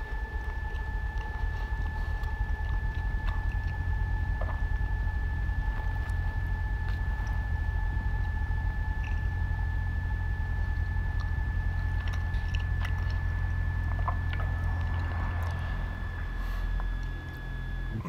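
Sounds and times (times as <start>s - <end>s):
high-pitched whine: 0.0s - 18.0s
low droning hum: 0.0s - 18.0s.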